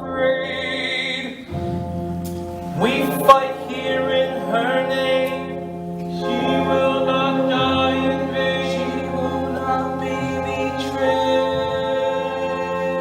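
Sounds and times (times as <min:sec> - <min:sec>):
chorus singing held chords: 0:00.0 - 0:13.0.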